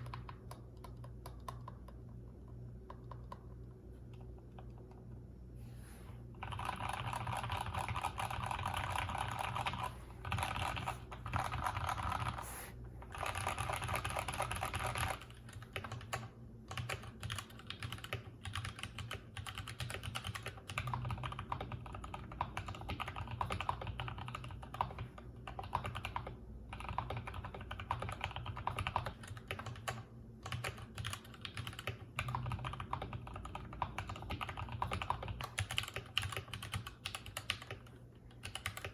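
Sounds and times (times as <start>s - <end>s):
typing on mechanical keyboard: 0.0s - 5.0s, 6.4s - 12.4s, 13.1s - 38.9s.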